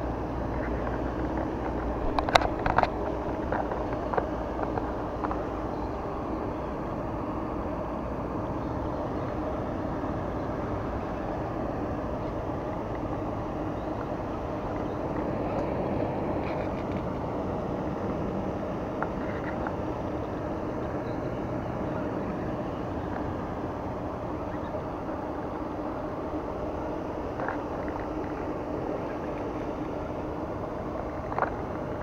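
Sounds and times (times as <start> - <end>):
faint constant hum: 0.0 - 32.0
outdoor drone: 0.0 - 32.0.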